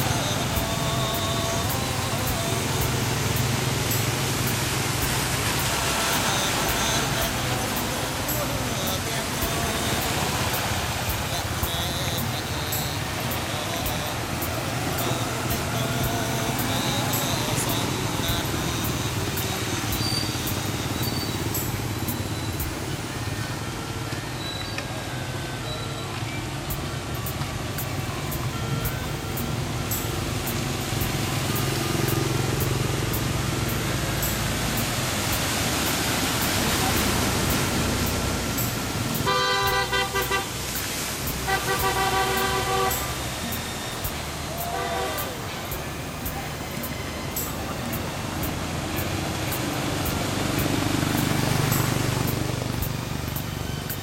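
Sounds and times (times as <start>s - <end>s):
vehicle horn honking: 0.0s - 50.8s
low engine hum: 0.0s - 54.0s
road noise hiss: 0.0s - 54.0s
vehicles splashing through water: 0.0s - 54.0s.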